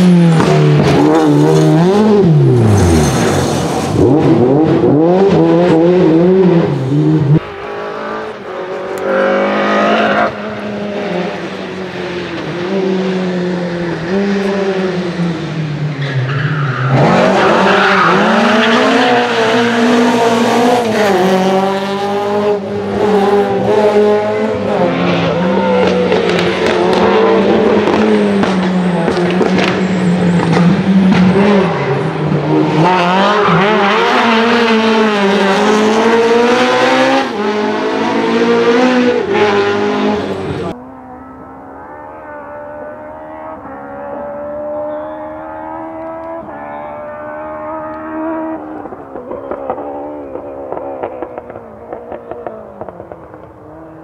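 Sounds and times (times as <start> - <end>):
rally car engine revving hard: 0.0 - 15.6, 16.3 - 54.0.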